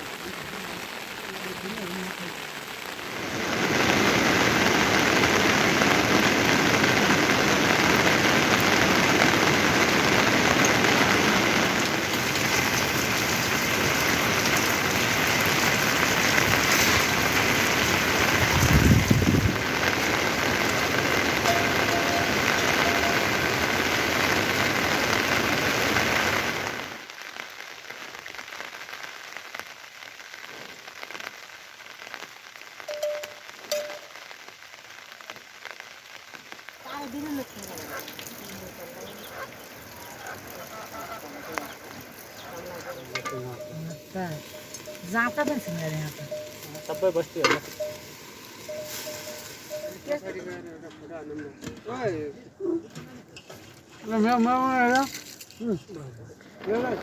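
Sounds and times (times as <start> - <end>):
heavy rain falling: 0.0 - 50.7, 53.8 - 57.0.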